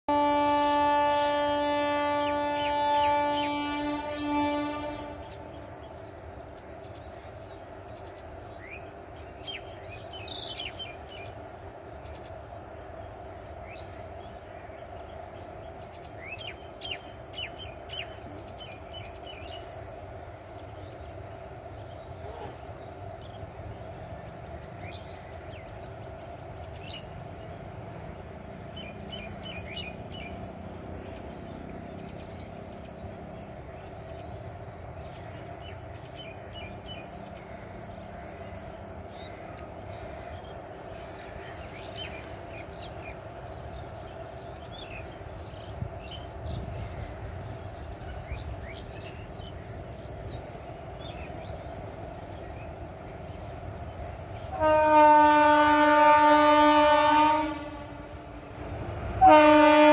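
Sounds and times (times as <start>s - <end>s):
distant train rumble: 0.1s - 59.9s
insects droning: 0.1s - 59.9s.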